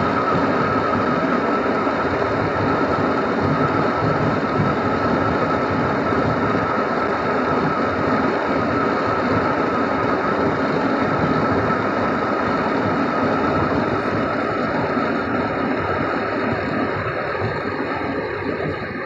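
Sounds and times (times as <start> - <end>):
steady high hum: 0.0 - 19.0.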